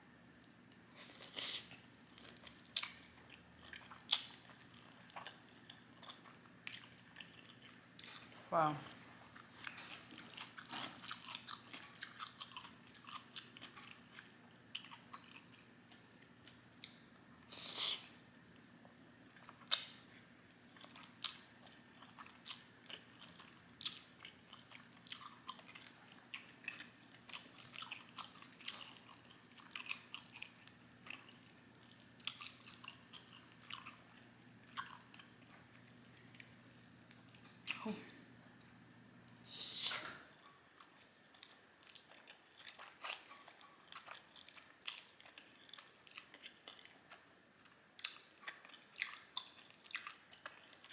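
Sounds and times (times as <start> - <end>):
person chewing food: 0.5 - 8.4, 9.0 - 18.2, 18.8 - 37.8, 40.8 - 50.9.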